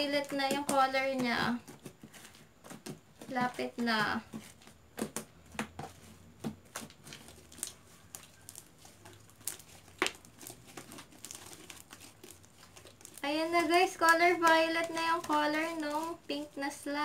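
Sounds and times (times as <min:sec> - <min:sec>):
slime kneaded by hand: 0:00.0 - 0:17.0.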